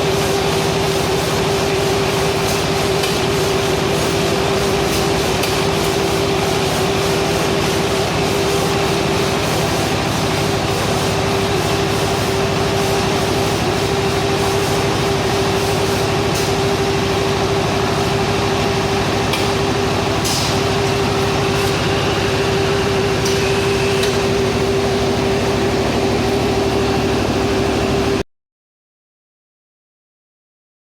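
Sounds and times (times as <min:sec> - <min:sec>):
baler motor hum and whine: 0:00.0 - 0:28.2.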